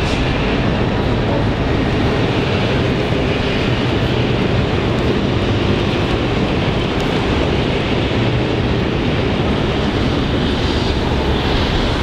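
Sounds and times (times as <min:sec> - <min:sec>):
freight train rumbling: 0:00.0 - 0:12.0
road traffic: 0:00.0 - 0:12.0.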